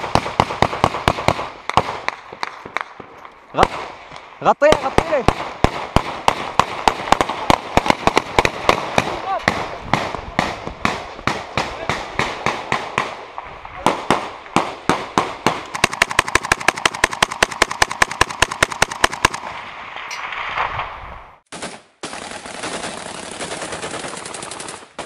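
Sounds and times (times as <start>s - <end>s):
assault rifle shots: 0.0s - 19.6s, 21.5s - 25.0s.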